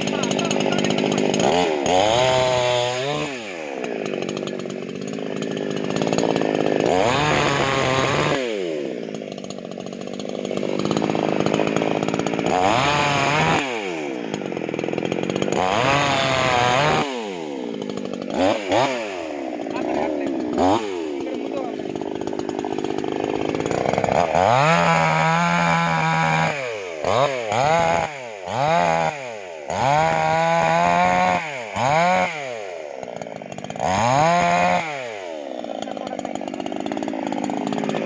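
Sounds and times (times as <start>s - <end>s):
chainsaw revving: 0.0s - 38.0s.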